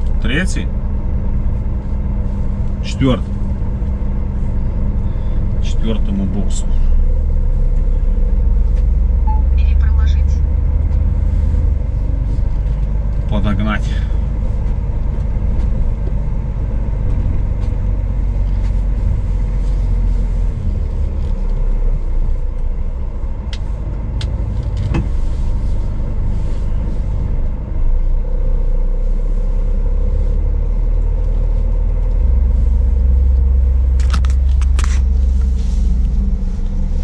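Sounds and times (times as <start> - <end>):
diesel truck engine rumble: 0.0 - 37.0.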